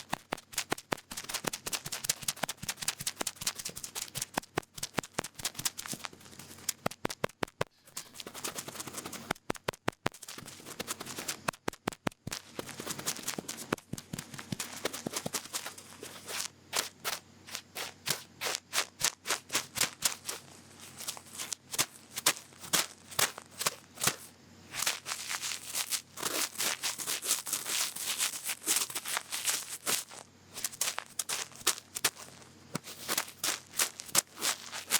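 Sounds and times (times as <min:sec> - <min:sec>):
cotton bud scratching in ear: 0:00.0 - 0:34.9.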